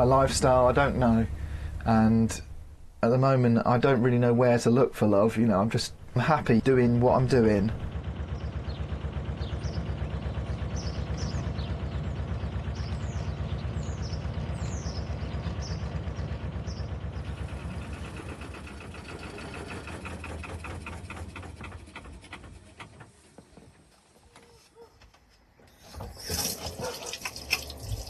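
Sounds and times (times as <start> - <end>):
boat engine chugging: 0.0 - 3.0, 5.0 - 24.0, 25.8 - 28.0
birds chirping: 3.1 - 23.8, 25.7 - 28.0.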